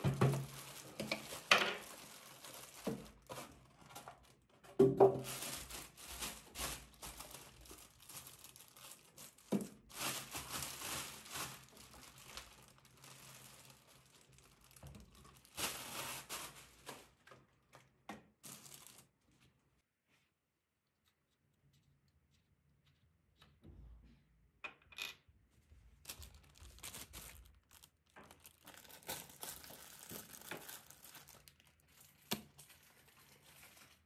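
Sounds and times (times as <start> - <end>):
plastic sheet crinkling: 0.0 - 19.6, 25.9 - 34.0.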